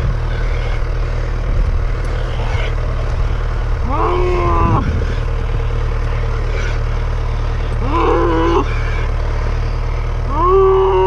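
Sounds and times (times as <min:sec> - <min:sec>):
cow bellowing: 0:00.0 - 0:11.0
tractor engine idling: 0:00.0 - 0:11.0.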